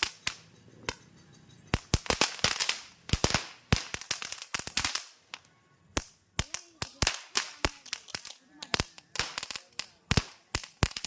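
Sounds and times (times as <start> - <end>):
firecrackers cracking: 0.0 - 11.0.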